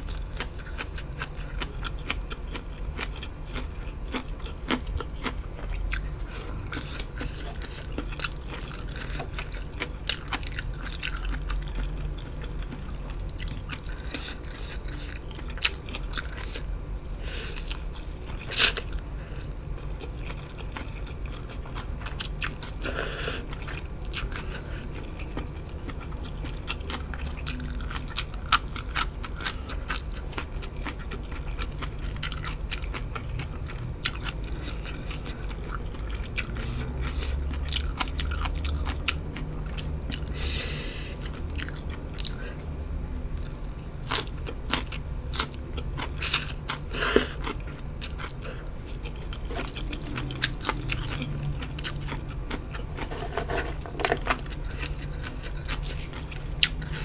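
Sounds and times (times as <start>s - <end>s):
person chewing and crunching: 0.0s - 57.0s.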